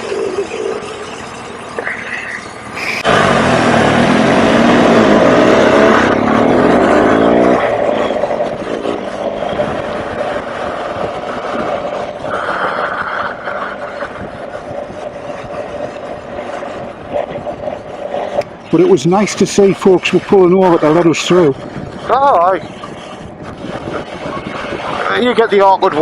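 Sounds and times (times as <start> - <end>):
motorcycle engine accelerating: 0.0 - 26.0
wind rushing over microphone: 2.5 - 26.0.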